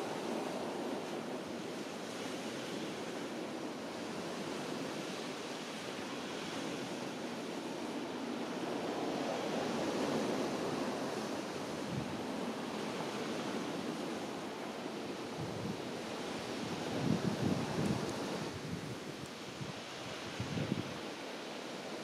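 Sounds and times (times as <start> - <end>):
surf washing onto beach: 0.0 - 22.0
wind noise on microphone: 0.0 - 22.0.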